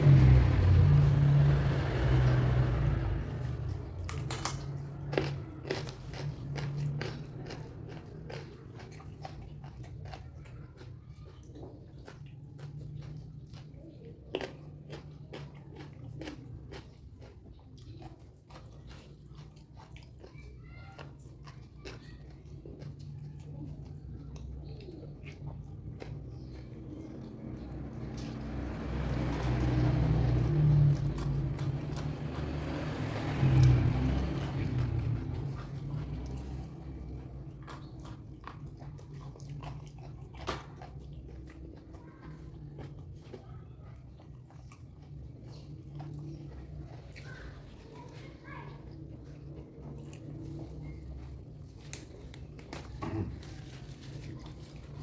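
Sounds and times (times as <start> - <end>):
person chewing raw vegetables: 0.0 - 55.0.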